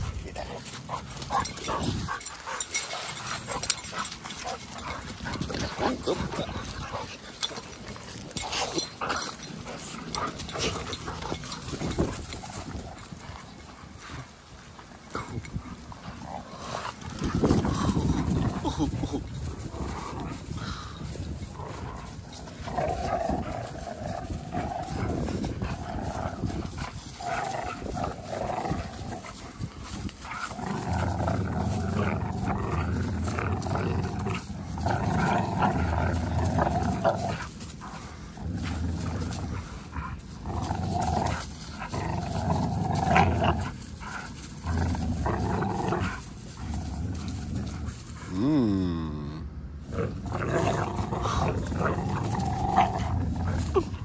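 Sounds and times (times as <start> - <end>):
dogs growling: 0.0 - 54.0.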